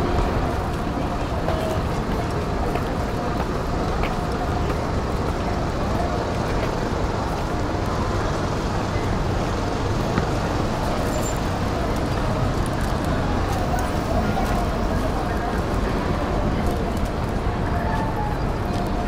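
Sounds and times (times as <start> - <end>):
passersby's voices: 0.0 - 19.0
road traffic rumble: 0.0 - 19.0.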